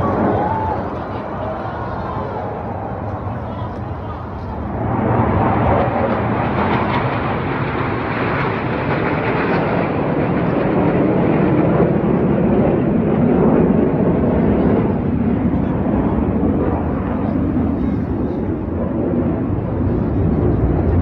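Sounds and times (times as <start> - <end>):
jets passing overhead: 0.0 - 21.0.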